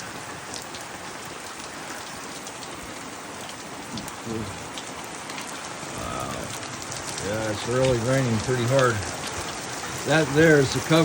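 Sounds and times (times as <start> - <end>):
heavy rain: 0.0 - 11.0
raindrops hitting surfaces: 0.0 - 11.0.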